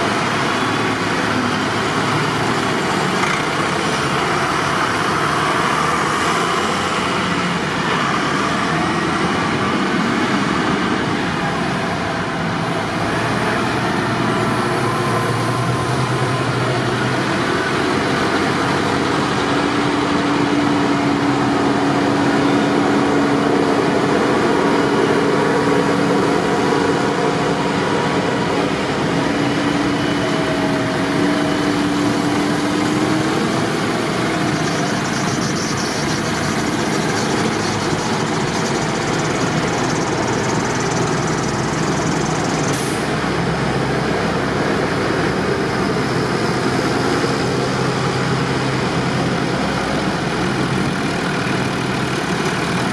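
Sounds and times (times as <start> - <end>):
tractor engines running: 0.0 - 52.9.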